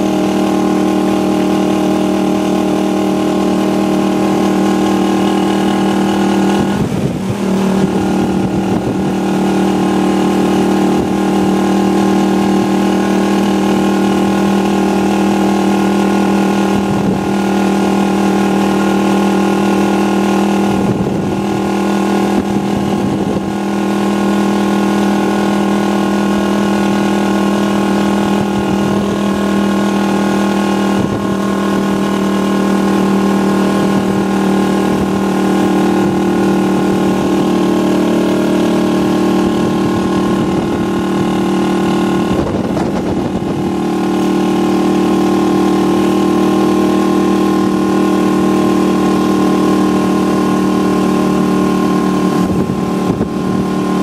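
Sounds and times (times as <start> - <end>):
motorcycle engine droning: 0.0 - 54.0
road noise: 0.0 - 54.0.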